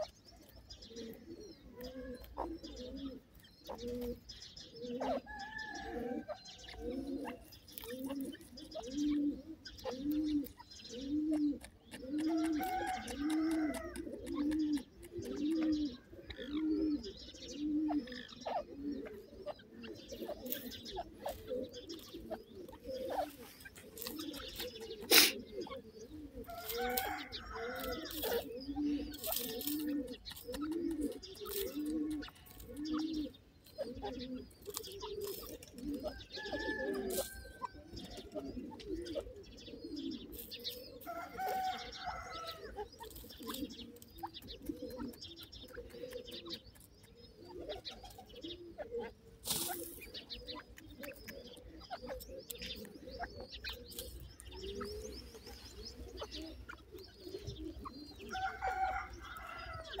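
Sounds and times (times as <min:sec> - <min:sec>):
birds cooing: 0:00.0 - 1:00.0.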